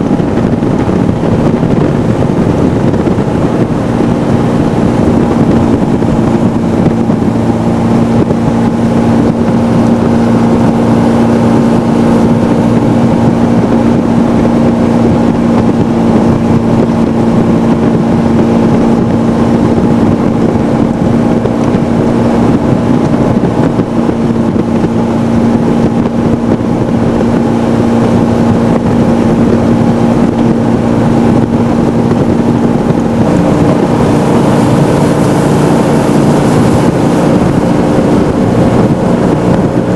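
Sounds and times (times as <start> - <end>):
jet boat engine drone: 0.0 - 39.9
wind and water rushing: 0.0 - 39.9.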